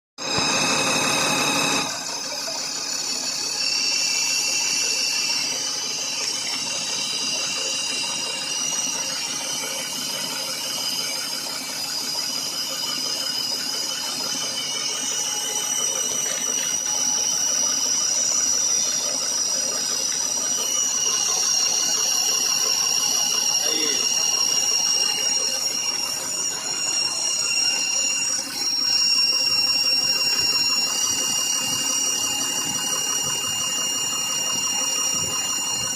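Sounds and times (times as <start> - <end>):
high whines: 0.2 - 35.9.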